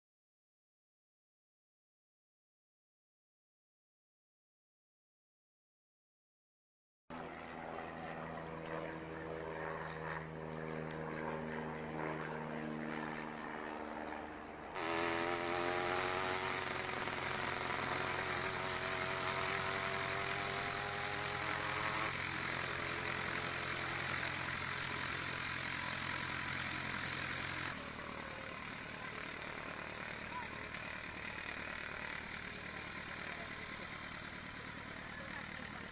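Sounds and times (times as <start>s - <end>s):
light airplane engine and propeller: 7.1s - 35.9s.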